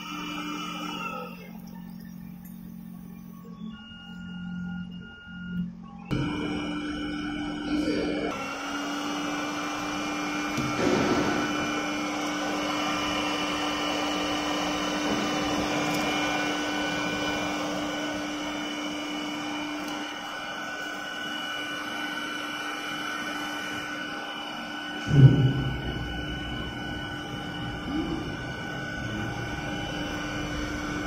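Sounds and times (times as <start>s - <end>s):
hot-air blower whirring hiss: 0.0s - 1.5s, 6.1s - 31.0s
steady hum: 0.0s - 31.0s.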